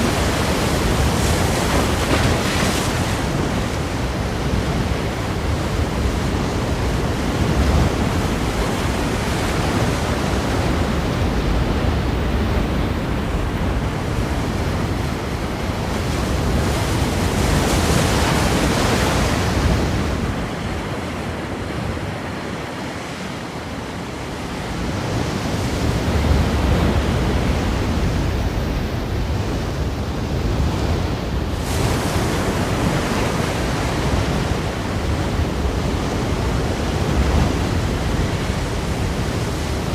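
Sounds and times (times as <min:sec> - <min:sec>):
ocean surf breaking on rocks: 0:00.0 - 0:39.9.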